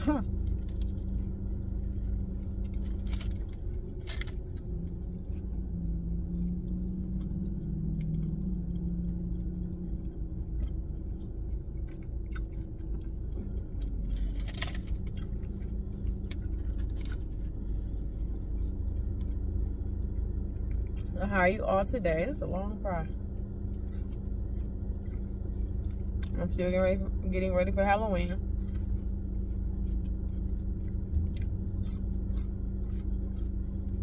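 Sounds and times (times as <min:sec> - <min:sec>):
person chewing crunchy food: 0:00.0 - 0:21.2, 0:23.1 - 0:26.4, 0:28.4 - 0:34.0
car cabin hum: 0:00.0 - 0:34.0.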